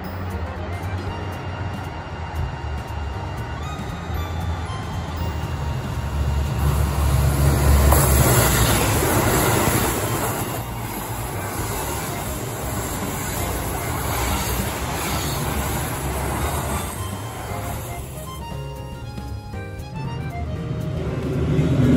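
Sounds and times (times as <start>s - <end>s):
diesel train passing at speed: 0.0s - 21.9s
train wheel noise: 0.0s - 21.9s.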